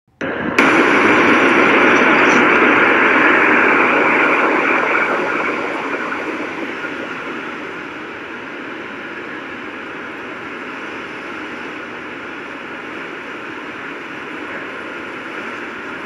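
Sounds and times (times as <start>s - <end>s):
blizzard wind rushing: 0.2s - 16.0s.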